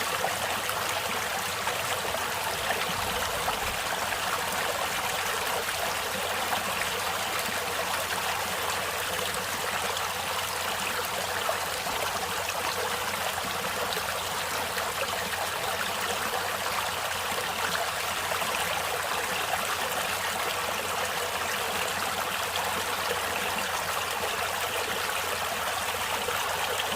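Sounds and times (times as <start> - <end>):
stream flowing over rocks: 0.0 - 26.9.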